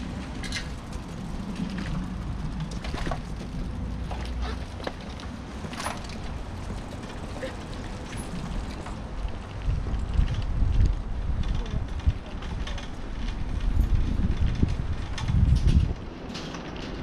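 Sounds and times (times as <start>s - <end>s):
bicycle rolling over brick paving: 0.0s - 17.0s.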